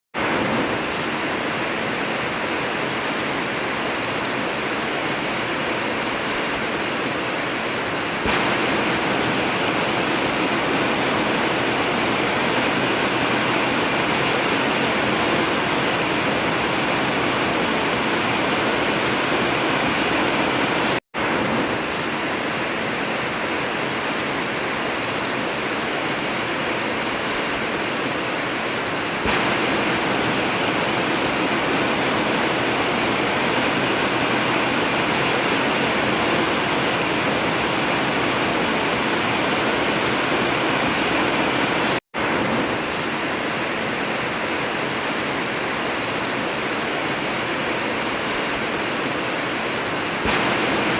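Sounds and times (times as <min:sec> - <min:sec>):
heavy rain on a metal roof: 0:00.1 - 0:50.9.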